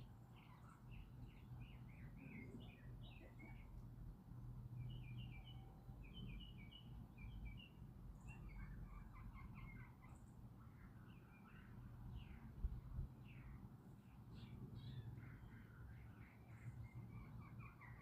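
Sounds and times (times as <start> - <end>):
small bird chirping: 0.0 - 3.8, 4.8 - 18.0.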